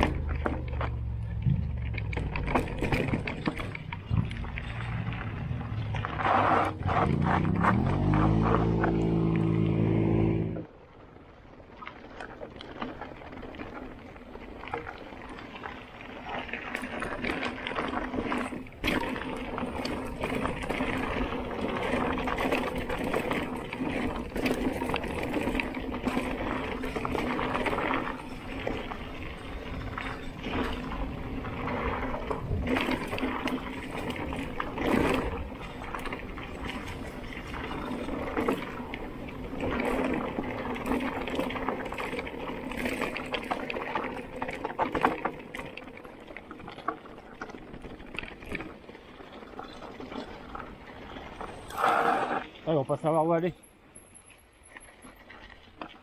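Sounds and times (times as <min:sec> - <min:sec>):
bike knocking and rattling: 0:00.0 - 0:10.6, 0:11.7 - 0:56.0
bike tyres on gravel: 0:00.0 - 0:56.0.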